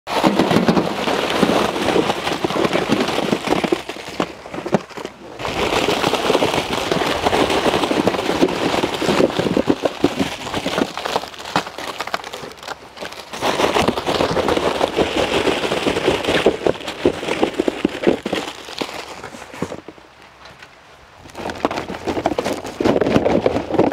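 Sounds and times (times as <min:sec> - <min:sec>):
plastic packets tumbling onto metal platter: 0:00.1 - 0:19.8.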